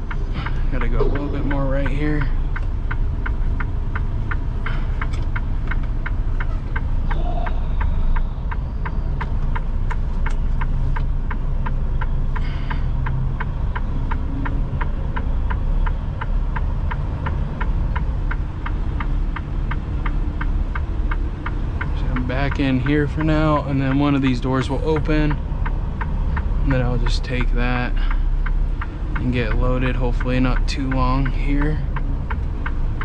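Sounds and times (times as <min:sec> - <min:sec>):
rapid ticking: 0:00.0 - 0:07.1, 0:07.8 - 0:33.0
diesel truck engine running: 0:00.0 - 0:33.0.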